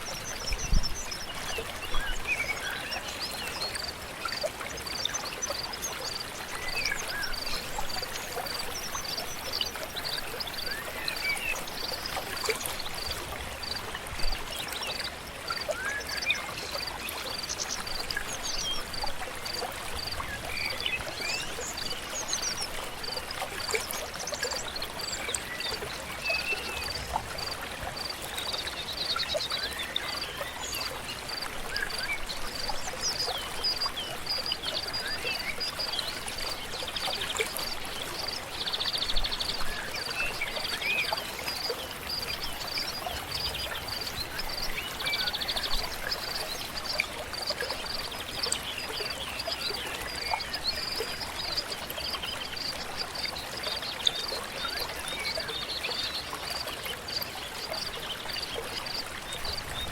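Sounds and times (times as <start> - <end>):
river flowing: 0.0 - 59.9.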